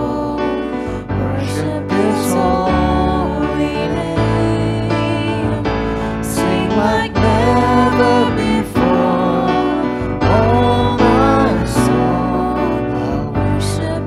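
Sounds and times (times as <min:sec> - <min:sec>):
keyboard chords: 0:00.0 - 0:14.0
singers holding long notes: 0:00.0 - 0:14.0.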